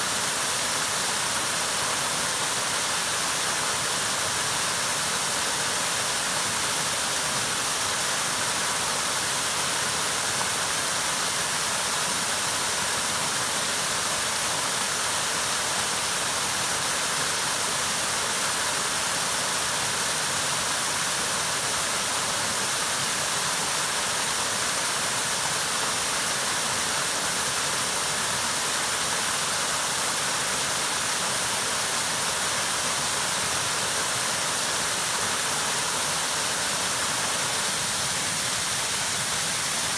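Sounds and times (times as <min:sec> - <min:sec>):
small waterfall pouring: 0:00.0 - 0:39.9.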